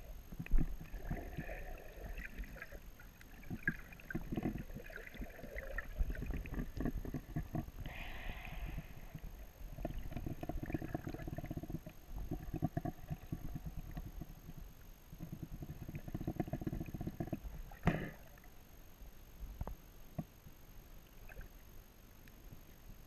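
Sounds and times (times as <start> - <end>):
underwater water crackling: 0.0 - 18.7.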